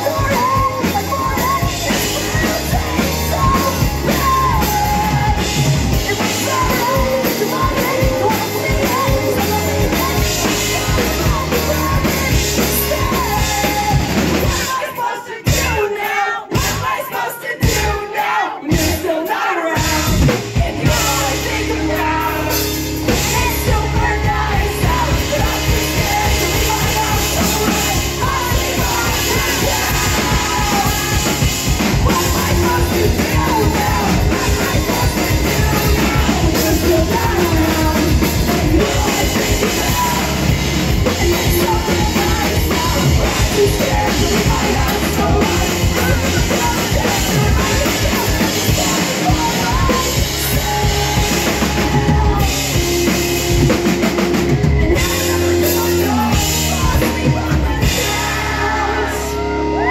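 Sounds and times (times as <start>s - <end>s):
electric guitars: 0.0s - 15.9s, 18.7s - 59.9s
bass guitar: 0.0s - 59.9s
drum kit: 0.0s - 59.9s
person singing lead vocals: 0.0s - 59.9s.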